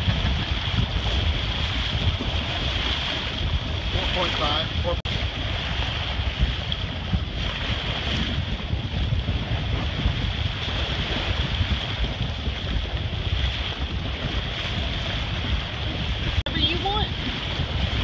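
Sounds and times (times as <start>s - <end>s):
choppy water washing: 0.0s - 18.0s
wind buffeting microphone: 0.0s - 18.0s.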